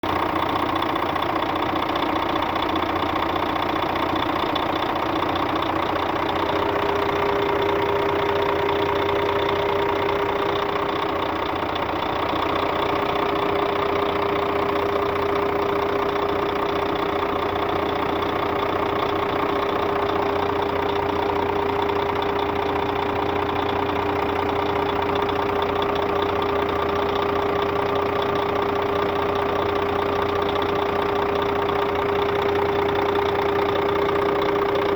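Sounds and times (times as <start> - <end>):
diesel bus engine running: 0.0 - 34.9.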